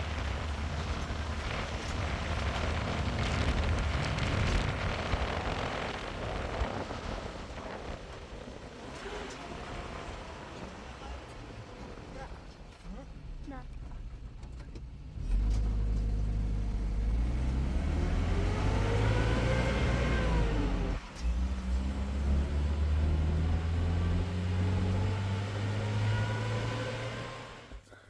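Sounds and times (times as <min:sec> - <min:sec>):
vehicle engine running under load: 0:00.0 - 0:28.0.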